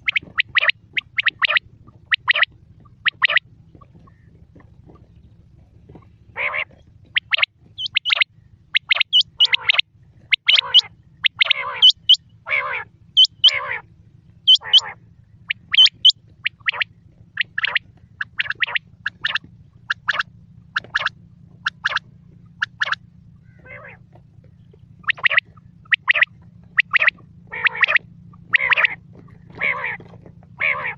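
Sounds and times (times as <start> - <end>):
faint low hum: 0.0 - 30.9
harsh raspy calls: 0.0 - 30.9
quail whistled calls: 0.0 - 30.9.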